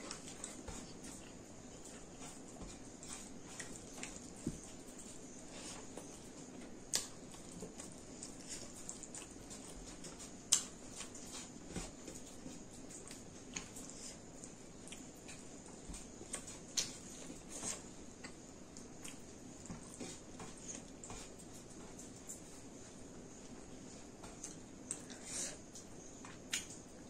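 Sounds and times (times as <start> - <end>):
chewing and lip-smacking: 0.0 - 5.2, 5.8 - 22.5, 24.3 - 27.0.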